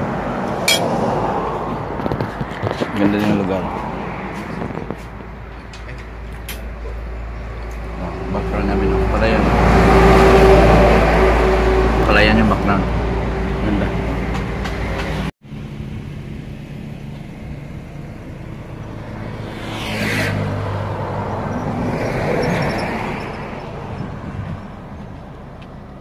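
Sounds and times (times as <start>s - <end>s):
steady road rumble: 0.0s - 26.0s
vehicles passing with whoosh: 0.0s - 26.0s.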